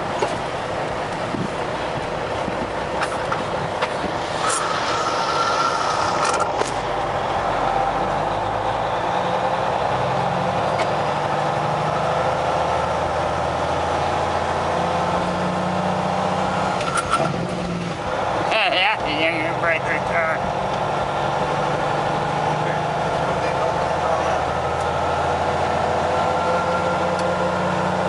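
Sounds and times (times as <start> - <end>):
truck diesel engine running: 0.0 - 28.0.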